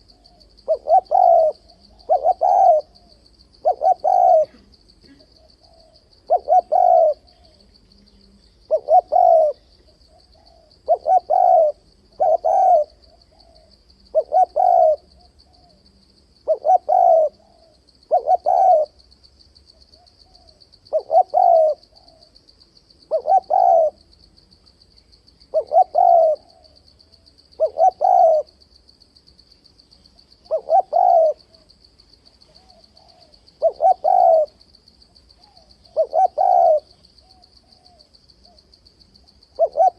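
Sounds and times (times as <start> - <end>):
dove cooing: 0.0 - 19.0, 19.9 - 22.4, 23.0 - 24.1, 25.5 - 26.8, 27.5 - 28.6, 30.4 - 31.7, 32.4 - 34.6, 35.4 - 38.6, 39.2 - 39.9.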